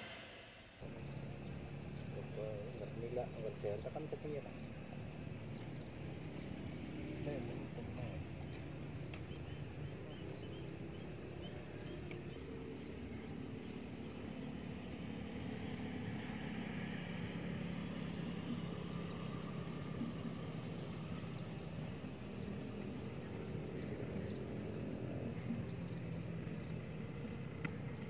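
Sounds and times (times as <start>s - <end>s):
engine humming: 0.0s - 28.0s
faint outdoor background noise: 0.0s - 28.0s.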